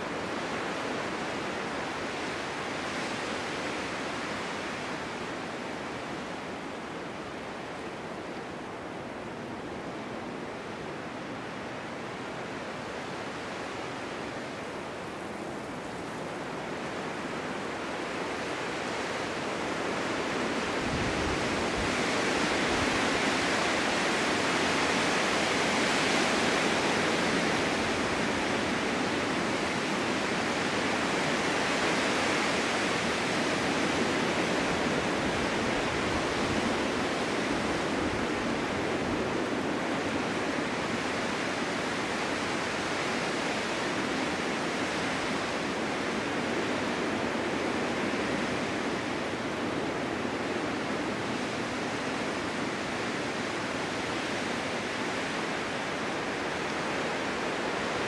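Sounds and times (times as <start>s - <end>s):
snowstorm wind blowing: 0.0s - 58.0s.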